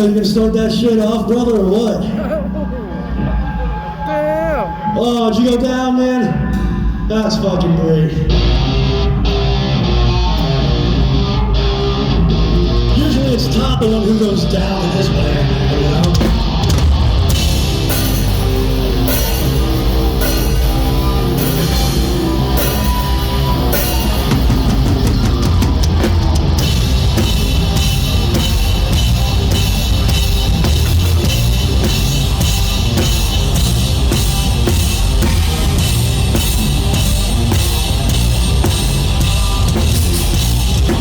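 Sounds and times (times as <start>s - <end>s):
rock band playing live: 6.3s - 41.0s.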